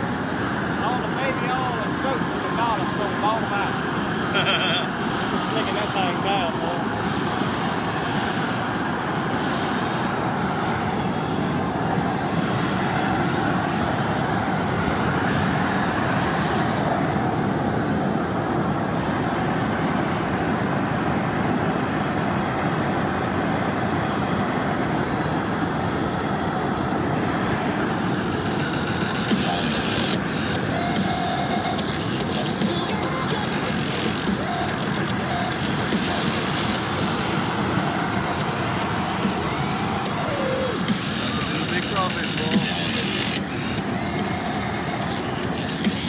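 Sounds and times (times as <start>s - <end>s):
propane burner rushing: 0.0s - 46.0s.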